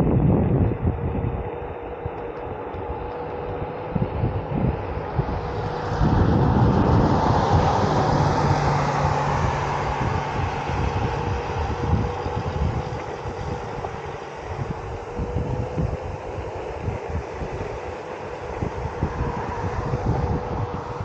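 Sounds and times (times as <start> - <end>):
steady electric hum: 0.0 - 21.0
wind rushing over microphone: 0.0 - 21.0.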